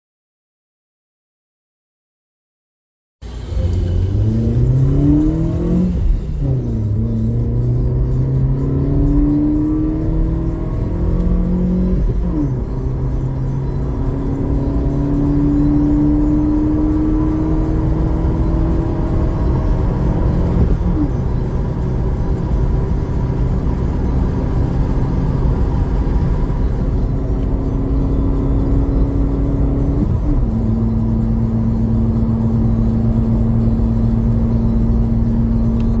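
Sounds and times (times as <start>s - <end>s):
car engine pulling through gears: 3.2s - 36.0s
road noise: 3.2s - 36.0s.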